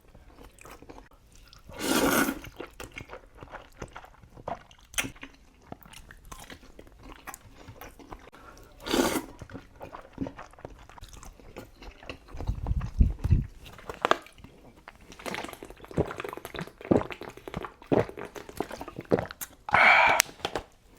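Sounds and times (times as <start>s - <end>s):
chewing and wet mouth sounds: 0.0s - 20.7s.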